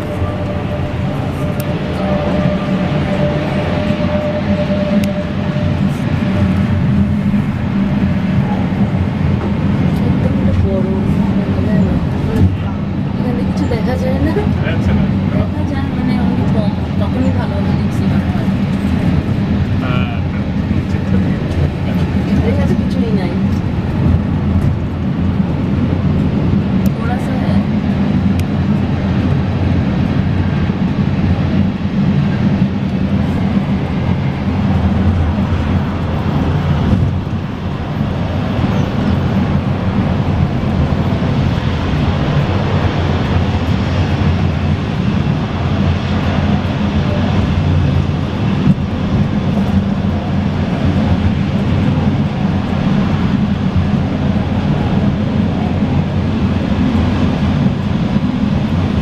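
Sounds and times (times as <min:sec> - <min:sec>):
funicular car rumbling: 0:00.0 - 0:59.0.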